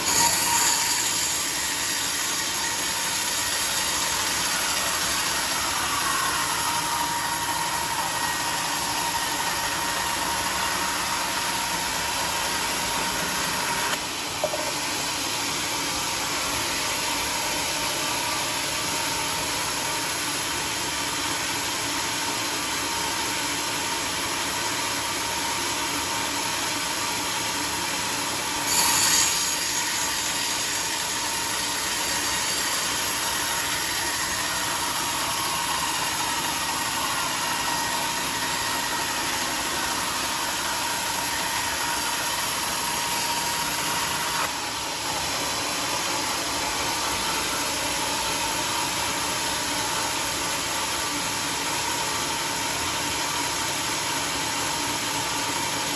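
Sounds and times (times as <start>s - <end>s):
sawmill machine whining: 0.0s - 55.9s.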